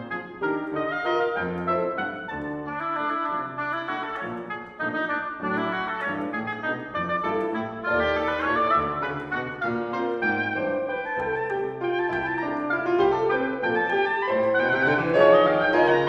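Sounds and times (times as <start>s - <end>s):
low piano notes: 0.0s - 16.0s
oboe melody: 0.0s - 16.0s.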